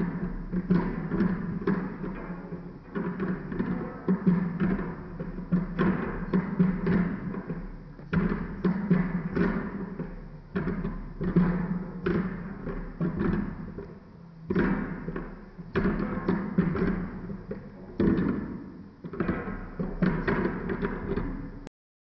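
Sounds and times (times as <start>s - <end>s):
deep drum strikes: 0.0s - 21.7s.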